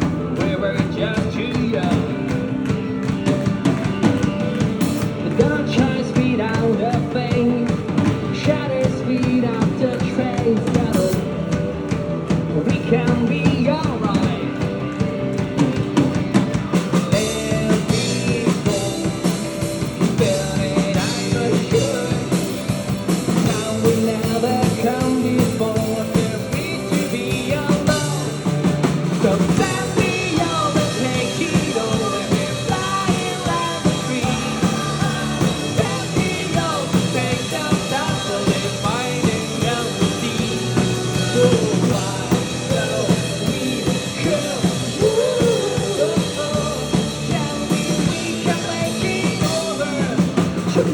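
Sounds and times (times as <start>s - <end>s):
drum kit: 0.0s - 50.9s
live rock band playing: 0.0s - 50.9s
person singing: 0.3s - 11.6s, 12.3s - 15.1s, 15.9s - 50.9s.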